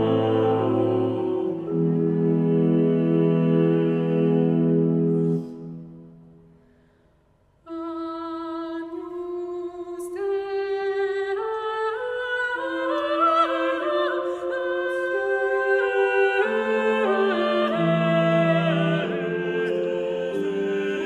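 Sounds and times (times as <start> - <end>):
vocal ensemble singing: 0.0 - 6.0, 10.0 - 21.0.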